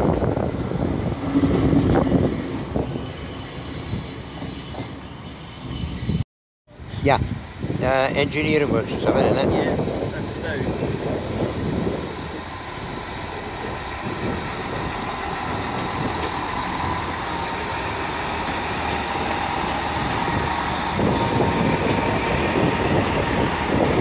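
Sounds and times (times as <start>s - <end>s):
train wheels on rails: 0.0s - 6.2s, 9.5s - 24.0s
diesel train engines: 0.0s - 24.0s.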